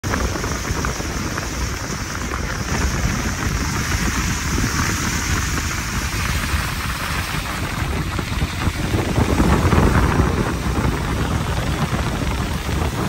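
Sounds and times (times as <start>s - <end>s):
fluttering low rumble: 0.0s - 13.0s
steady rain hiss: 0.1s - 13.0s.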